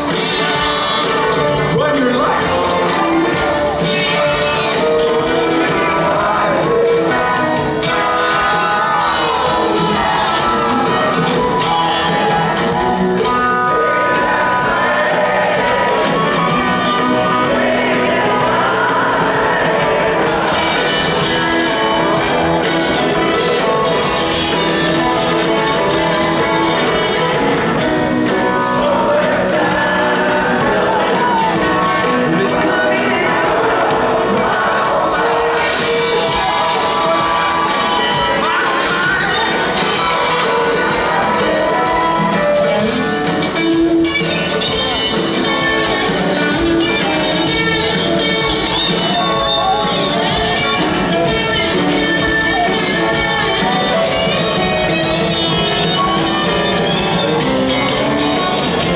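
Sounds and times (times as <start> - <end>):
crowd shouting: 0.0 - 58.9
live rock band with singing: 0.0 - 58.9.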